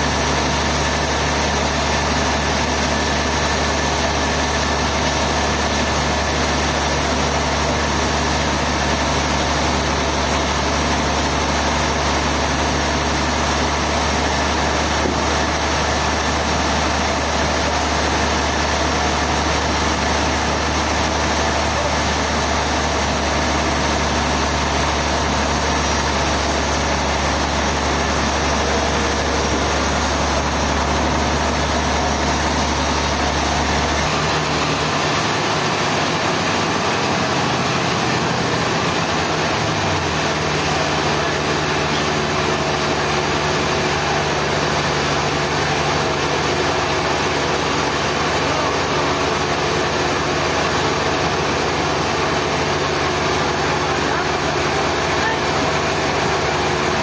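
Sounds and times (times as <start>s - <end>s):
low engine hum: 0.0s - 57.0s
sawmill machinery noise: 0.0s - 57.0s.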